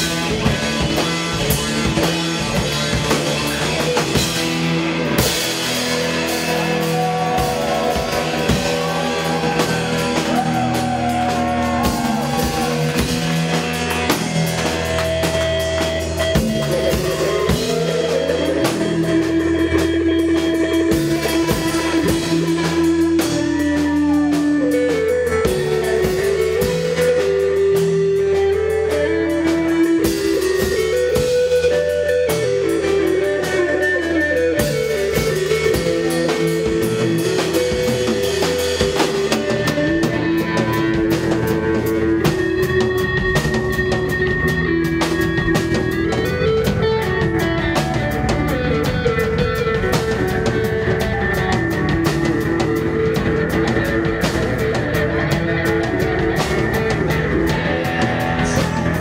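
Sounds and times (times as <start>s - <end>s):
drums: 0.0s - 59.0s
electric guitar lead melody: 0.0s - 59.0s
rock band playing: 0.0s - 59.0s
sustained bass: 0.0s - 59.0s.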